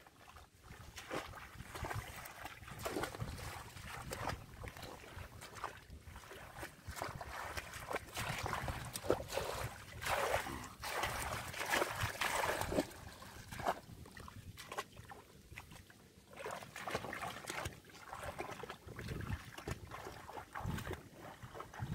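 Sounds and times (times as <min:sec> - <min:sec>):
muddy water splashing: 0:00.0 - 0:21.9.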